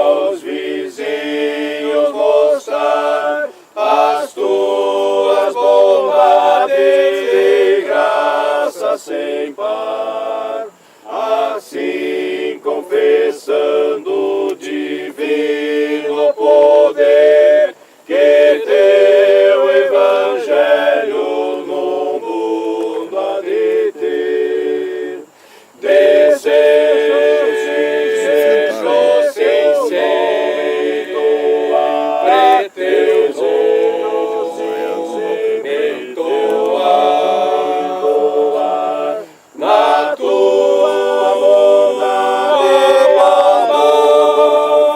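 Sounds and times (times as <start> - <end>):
group singing unaccompanied: 0.0 - 44.9.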